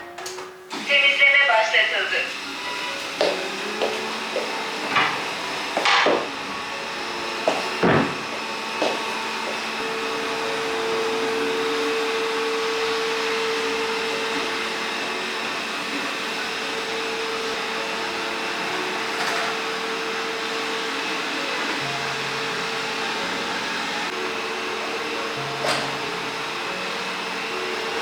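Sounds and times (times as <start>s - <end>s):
electric motor running with whine: 0.8s - 28.0s.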